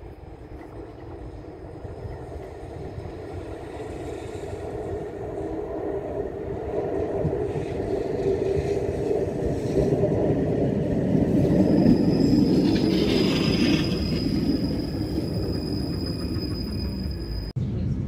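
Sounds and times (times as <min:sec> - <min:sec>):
tram passing on track: 0:00.0 - 0:18.0.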